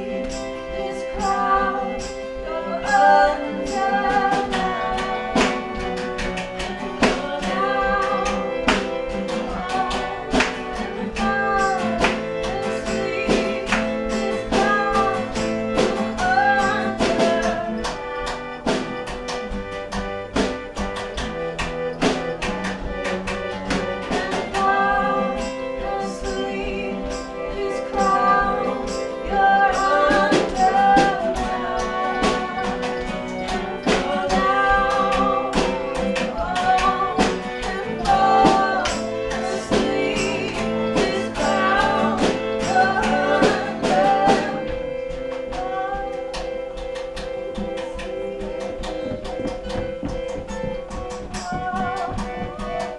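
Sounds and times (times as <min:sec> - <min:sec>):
woman singing: 0:00.0 - 0:18.5, 0:23.5 - 0:52.9
acoustic guitars strummed: 0:00.0 - 0:52.9
steady drum beat: 0:00.0 - 0:52.9.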